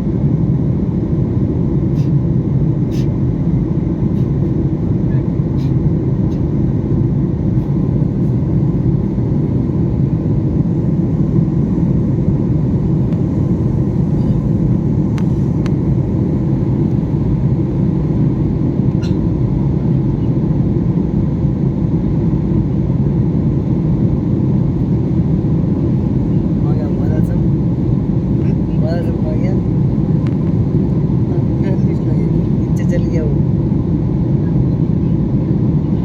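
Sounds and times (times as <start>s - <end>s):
airliner cabin engine rumble: 0.0s - 36.0s.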